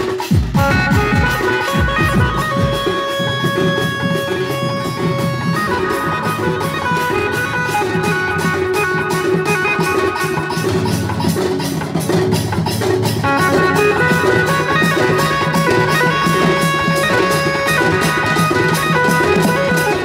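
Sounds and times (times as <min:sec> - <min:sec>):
hand cymbals: 0:00.0 - 0:20.0
large drums beating: 0:00.0 - 0:20.0
melody of held notes: 0:00.5 - 0:20.0.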